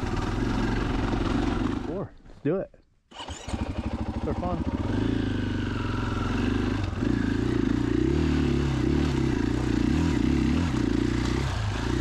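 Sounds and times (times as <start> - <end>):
motorcycle engine revving: 0.0 - 2.0, 3.1 - 12.0.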